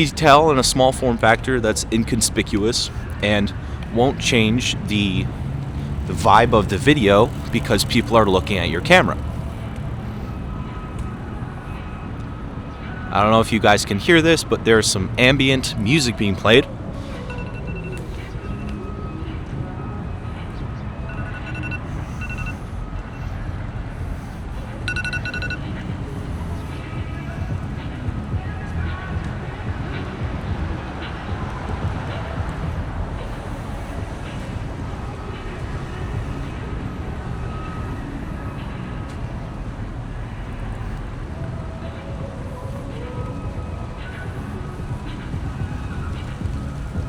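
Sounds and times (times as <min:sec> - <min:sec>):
low rumble of city traffic: 0:00.0 - 0:47.0
street noise: 0:00.0 - 0:47.0.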